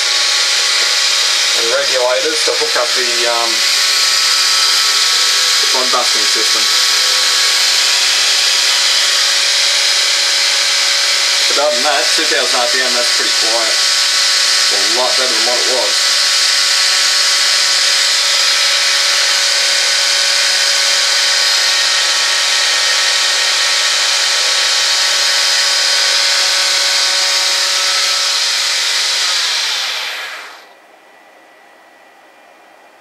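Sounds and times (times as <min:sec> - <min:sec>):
milling machine spindle whirring: 0:00.0 - 0:30.7.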